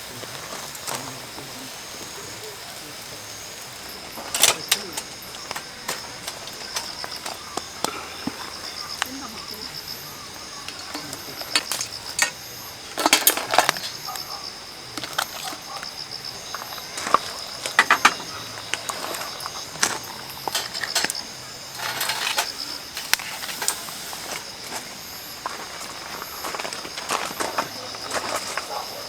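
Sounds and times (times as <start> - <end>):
camp cookware clattering: 0.0 - 28.8
insects chirring: 0.0 - 29.0.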